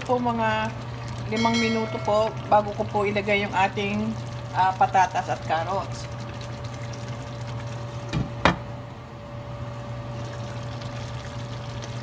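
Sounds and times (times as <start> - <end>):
sauce bubbling in a pan: 0.0 - 8.2, 9.8 - 12.0
low electrical hum: 0.0 - 12.0.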